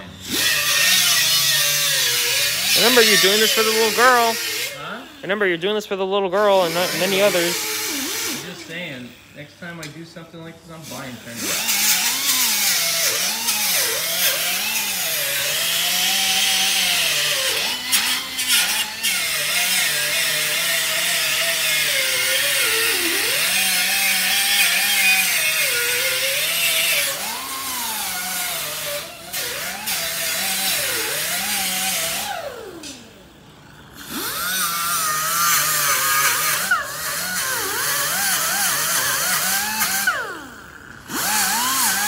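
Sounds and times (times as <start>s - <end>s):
air die grinder grinding metal: 0.0s - 9.9s, 10.8s - 42.0s.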